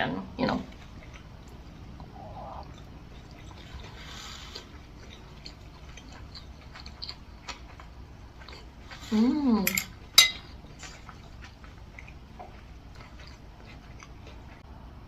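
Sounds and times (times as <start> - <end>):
soft chewing: 0.6 - 14.7.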